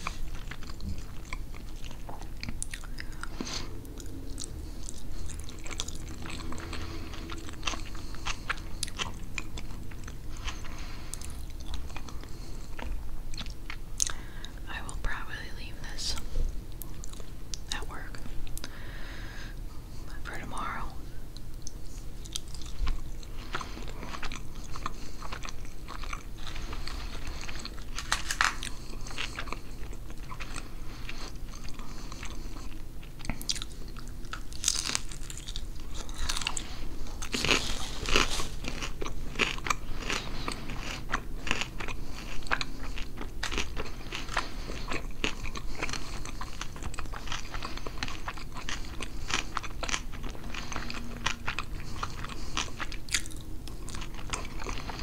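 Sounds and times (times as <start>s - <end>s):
chewing food: 0.0s - 15.2s, 16.1s - 55.0s.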